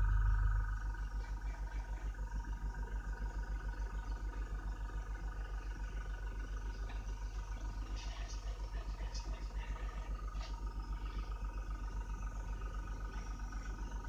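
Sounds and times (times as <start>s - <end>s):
air compressor pulsing: 0.0s - 14.0s
faint motor whine: 0.0s - 14.0s.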